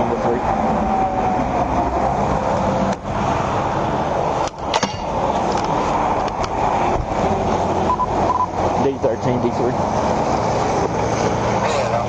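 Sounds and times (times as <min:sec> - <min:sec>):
highway traffic rushing: 0:00.0 - 0:12.0.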